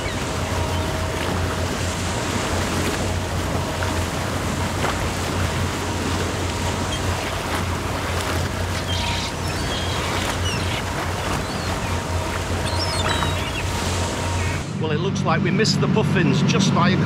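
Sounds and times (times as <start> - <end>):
boat engine humming: 0.0 - 17.0
water rushing along hull: 0.0 - 17.0.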